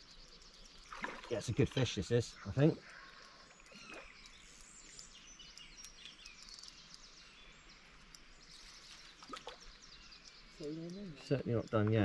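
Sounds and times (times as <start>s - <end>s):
birds chirping: 0.0s - 12.0s
quiet outdoor hiss: 0.0s - 12.0s.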